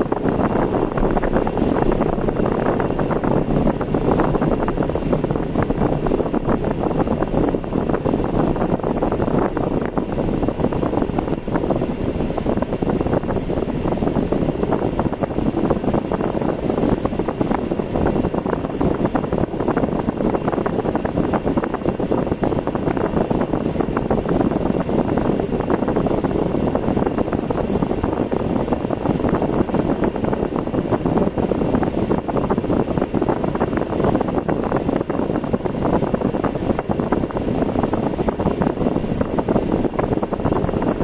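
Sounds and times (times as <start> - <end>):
car driving road noise: 0.0 - 41.0.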